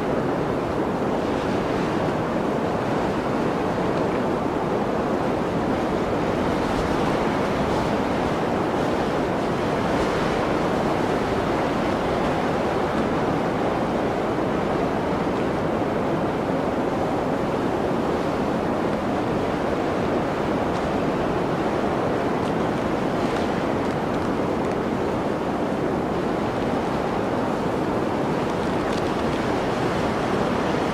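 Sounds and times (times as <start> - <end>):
blizzard wind rushing: 0.0 - 30.9.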